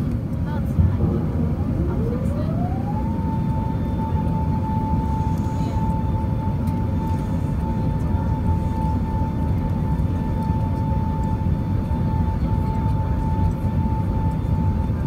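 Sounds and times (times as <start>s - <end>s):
airplane cabin engine rumble: 0.0s - 15.0s
steady whine: 0.0s - 15.0s.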